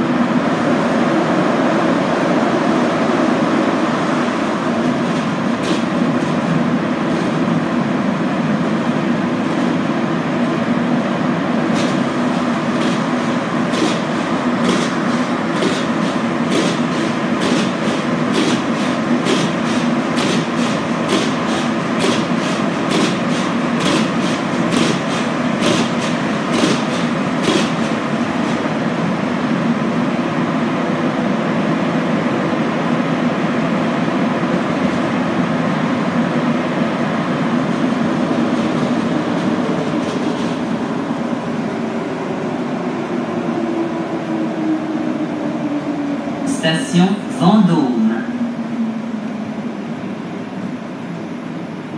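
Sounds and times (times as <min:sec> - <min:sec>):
train rumbling through tunnel: 0:00.0 - 0:51.9.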